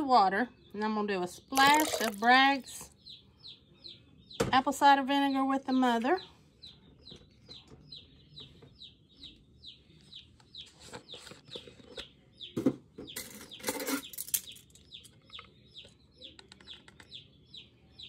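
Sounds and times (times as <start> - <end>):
chicks peeping: 0.4 - 18.0.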